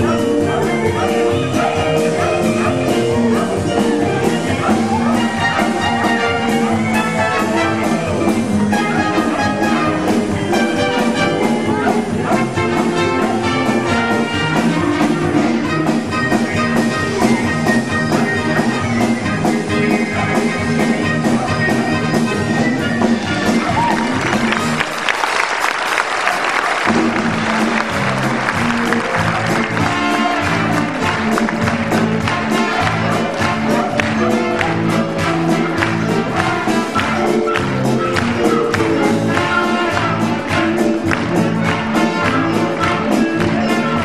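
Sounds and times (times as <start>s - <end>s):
band playing lively orchestral music: 0.0s - 44.0s.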